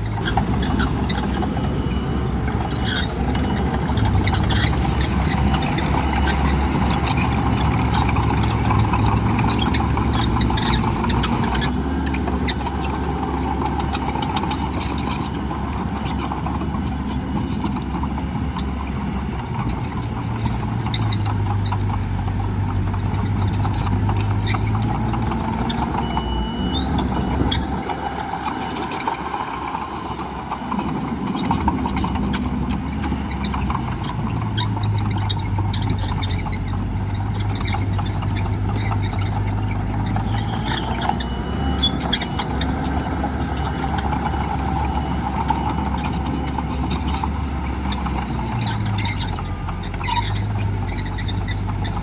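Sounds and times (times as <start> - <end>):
heavy diesel engine: 0.0 - 52.0.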